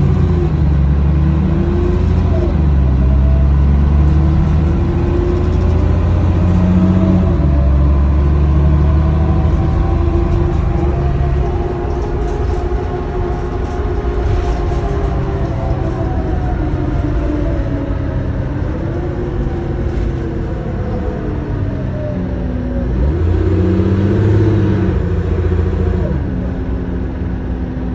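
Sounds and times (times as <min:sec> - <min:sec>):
bus diesel engine drone: 0:00.0 - 0:27.9
drivetrain whine: 0:00.0 - 0:27.9.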